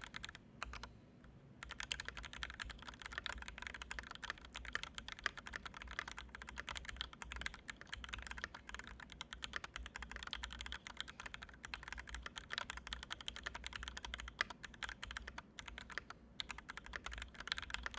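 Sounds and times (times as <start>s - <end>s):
mechanical keyboard keystrokes clacking: 0.0s - 0.9s, 1.6s - 17.9s.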